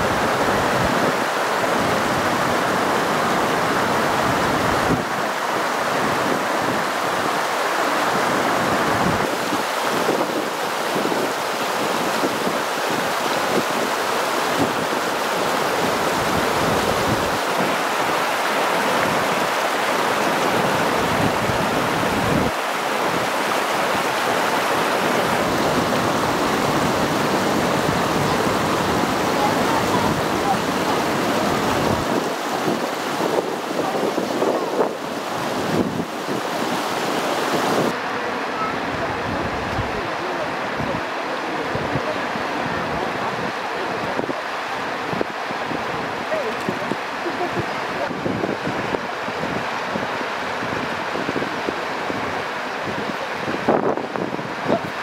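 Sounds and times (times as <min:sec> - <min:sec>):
water rushing over steps: 0:00.0 - 0:55.0.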